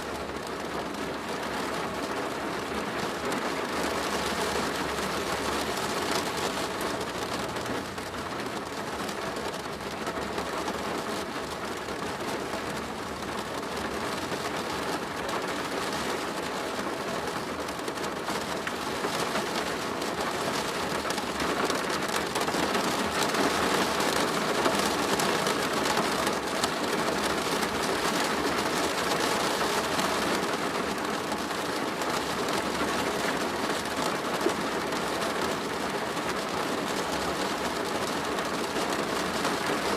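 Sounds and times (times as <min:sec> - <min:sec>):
rain drumming on plastic roof: 0:00.0 - 0:39.9.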